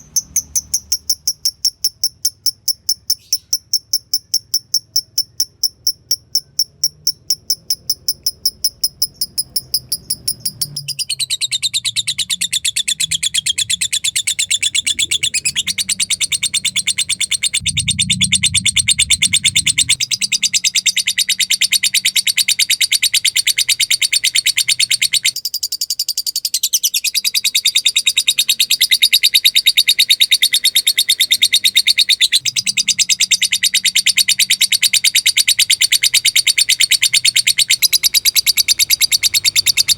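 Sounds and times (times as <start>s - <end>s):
lovebird calling: 6.2s - 25.4s, 26.5s - 39.9s.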